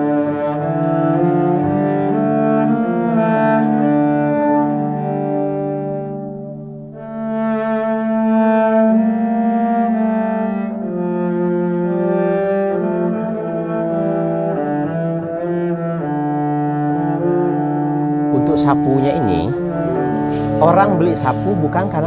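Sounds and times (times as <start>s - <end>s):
slow bowed string melody: 0.0s - 22.0s.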